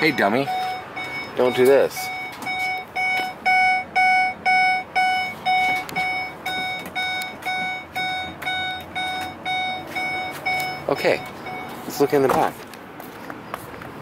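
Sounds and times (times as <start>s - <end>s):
dashboard warning chime beeping: 0.0s - 12.6s.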